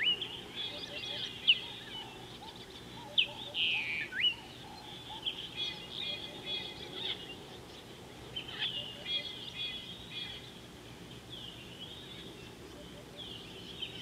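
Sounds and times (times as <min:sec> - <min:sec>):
birds chattering calls: 0:00.0 - 0:14.0
birds whistled notes: 0:00.0 - 0:14.0.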